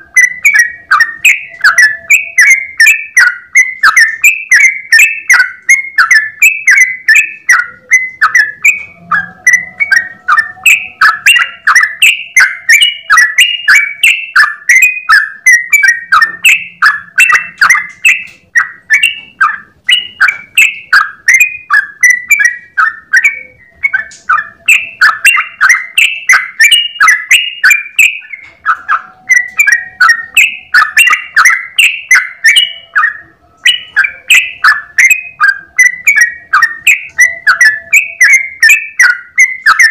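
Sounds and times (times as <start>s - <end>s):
bulbul singing chattering whistles: 0.0s - 39.9s.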